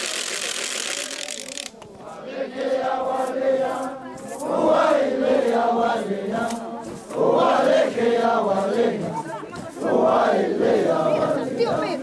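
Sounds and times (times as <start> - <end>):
crowd chanting and singing: 1.7 - 12.0.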